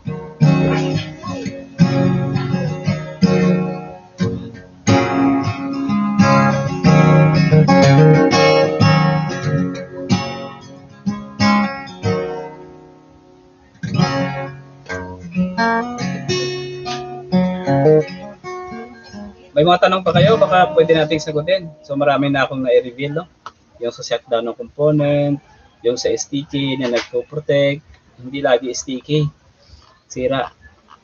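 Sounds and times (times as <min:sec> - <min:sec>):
acoustic guitar strumming: 0:00.0 - 0:25.3, 0:26.0 - 0:30.6.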